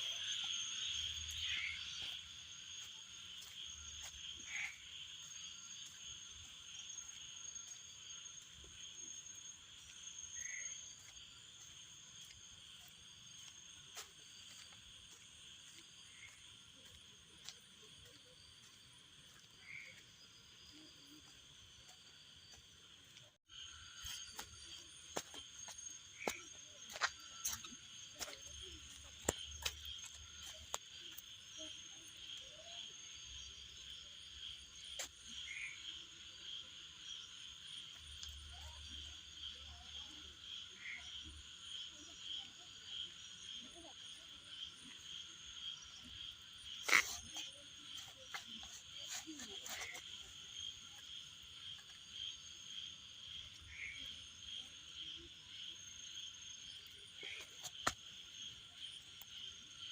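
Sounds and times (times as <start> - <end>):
frogs calling: 0.0 - 12.4, 13.2 - 59.5
insects trilling: 0.0 - 59.9.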